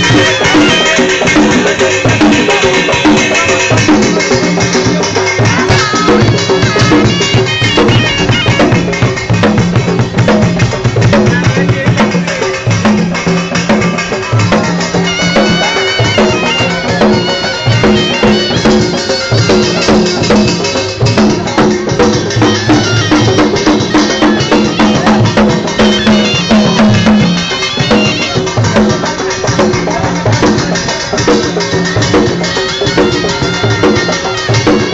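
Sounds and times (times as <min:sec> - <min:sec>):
drums beating quick rhythm: 0:00.0 - 0:34.9.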